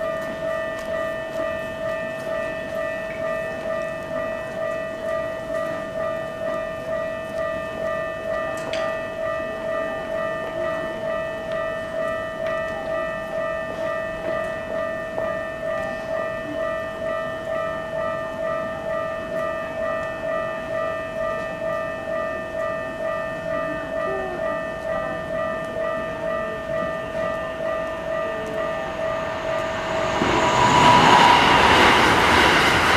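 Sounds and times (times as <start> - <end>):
level crossing warning bell: 0.0 - 32.9.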